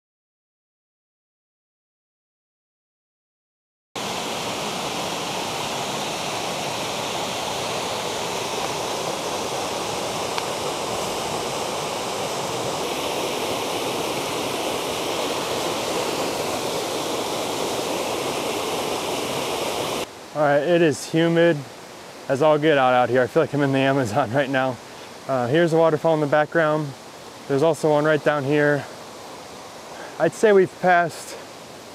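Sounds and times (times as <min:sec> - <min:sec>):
waterfall rushing over rocks: 0:04.0 - 0:31.9.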